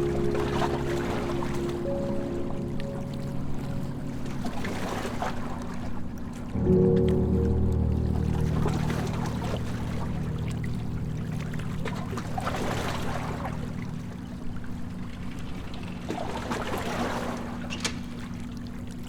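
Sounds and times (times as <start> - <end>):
water splashing around a boat: 0.0 - 6.6, 8.2 - 19.0
low steady hum: 0.0 - 15.8.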